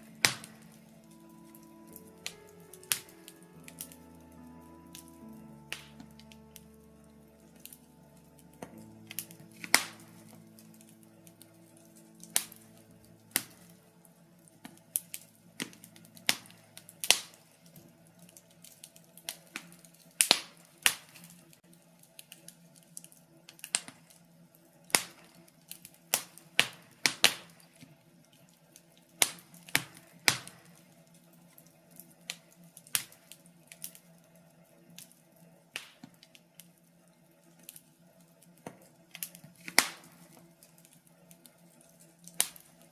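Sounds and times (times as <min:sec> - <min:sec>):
faint low hum: 0:00.0 - 0:42.9
logs crackling and popping in fire: 0:00.0 - 0:42.9.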